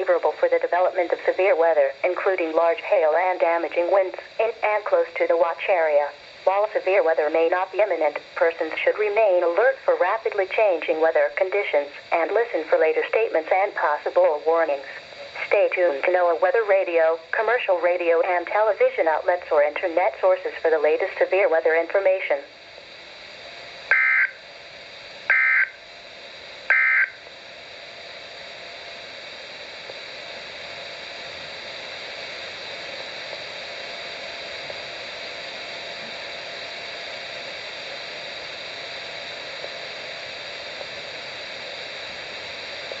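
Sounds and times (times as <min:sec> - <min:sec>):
radio hiss: 0:00.0 - 0:43.0.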